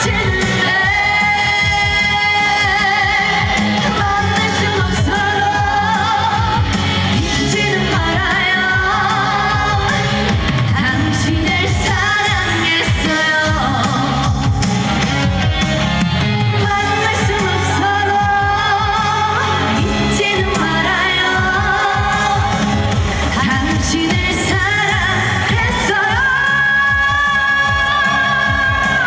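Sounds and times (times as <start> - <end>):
woman singing with vibrato: 0.0 - 14.6, 16.5 - 29.0
amplified accompaniment with beat: 0.0 - 29.0.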